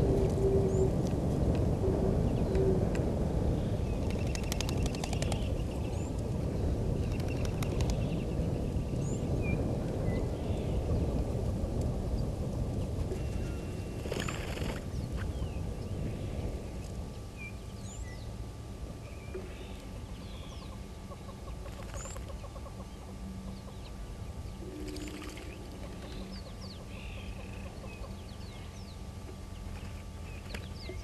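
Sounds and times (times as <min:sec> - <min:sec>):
low wind-like rumble: 0:00.0 - 0:31.0.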